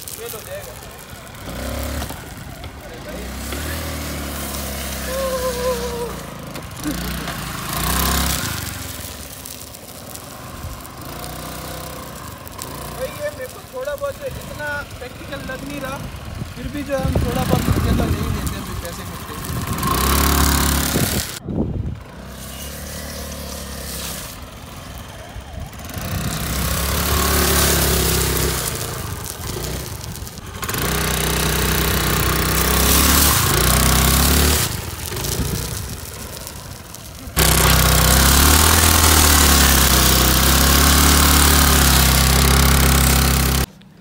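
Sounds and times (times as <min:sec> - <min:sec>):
hiss of spinning tyre: 0:00.0 - 0:16.6, 0:22.0 - 0:43.7
scooter engine revving: 0:00.0 - 0:43.8.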